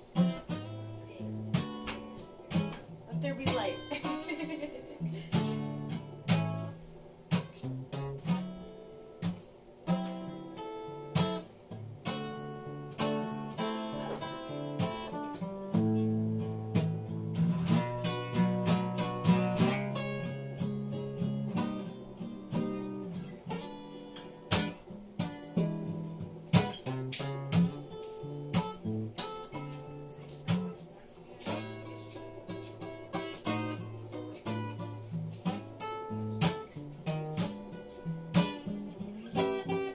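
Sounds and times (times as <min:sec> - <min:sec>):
acoustic guitar: 0:00.0 - 0:39.9.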